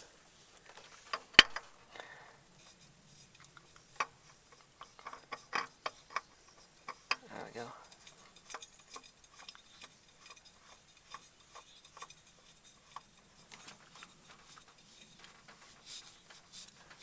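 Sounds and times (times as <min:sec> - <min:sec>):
oil filter clicks and knocks: 0:00.6 - 0:02.1, 0:03.4 - 0:15.8.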